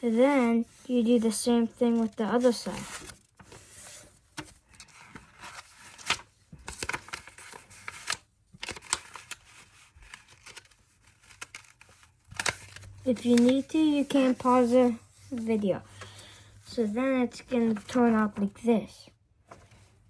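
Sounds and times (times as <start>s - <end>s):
paper crinkling and folding: 0.0s - 18.7s.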